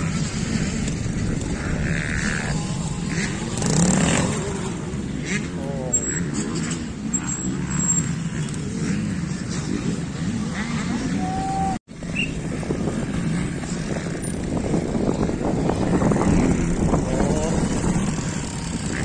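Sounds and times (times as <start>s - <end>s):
motorcycle engines blipping: 0.0s - 19.0s.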